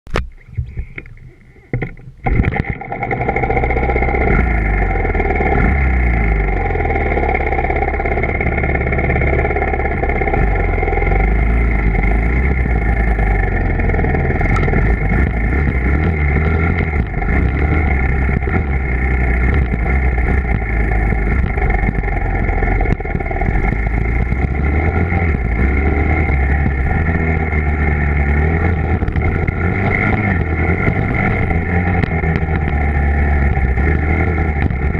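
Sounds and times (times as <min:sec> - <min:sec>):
dirt bike engine revving: 0:02.3 - 0:34.9.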